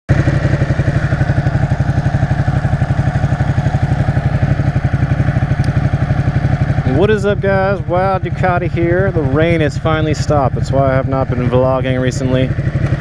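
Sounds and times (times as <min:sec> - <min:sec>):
motorcycle engine running at low revs: 0:00.1 - 0:13.0.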